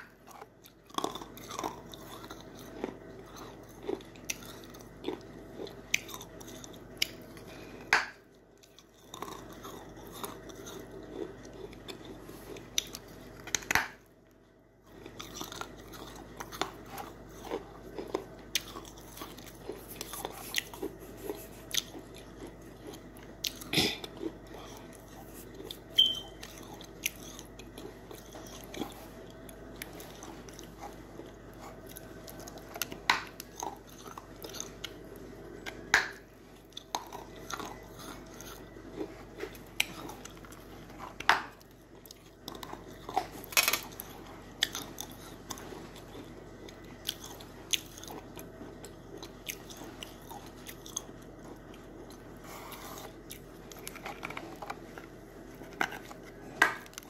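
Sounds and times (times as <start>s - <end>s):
cornstarch being bitten and chewed: 0.1s - 35.9s, 36.5s - 57.0s.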